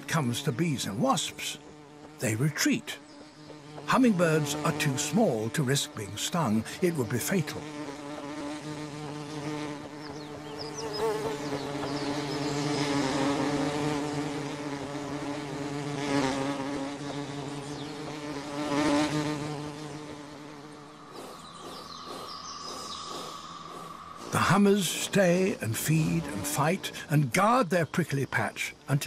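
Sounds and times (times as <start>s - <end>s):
insect wings buzzing: 0.0s - 29.0s.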